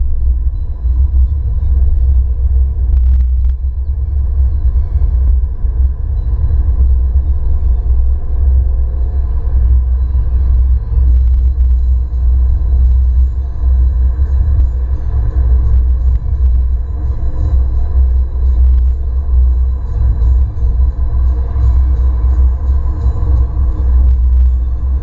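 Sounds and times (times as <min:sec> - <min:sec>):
engine and road rumble inside car: 0:00.0 - 0:25.0
faint engine hum: 0:00.0 - 0:25.0.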